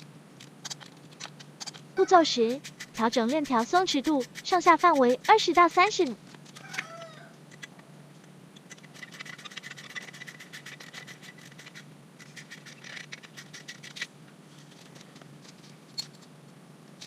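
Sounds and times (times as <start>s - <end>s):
hand tool clicking and scraping: 0.4s - 7.8s, 8.6s - 16.3s.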